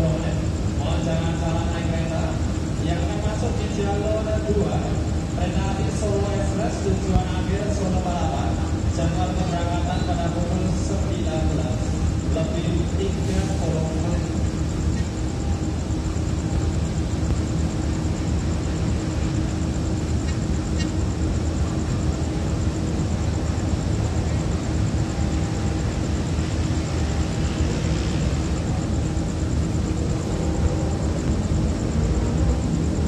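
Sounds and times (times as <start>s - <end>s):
diesel train engine running: 0.0s - 33.0s.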